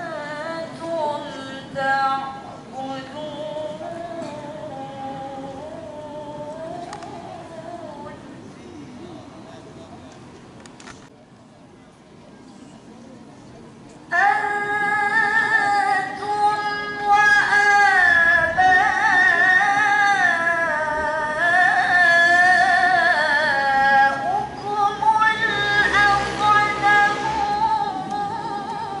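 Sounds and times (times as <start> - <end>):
woman chanting into a microphone: 0.0 - 8.4, 14.1 - 29.0.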